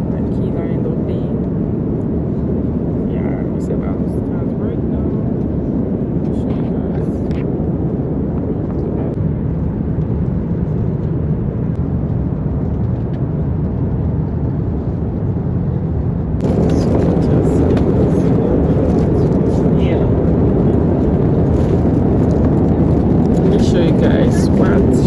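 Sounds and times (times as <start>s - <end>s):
airliner cabin engine rush: 0.0s - 25.0s.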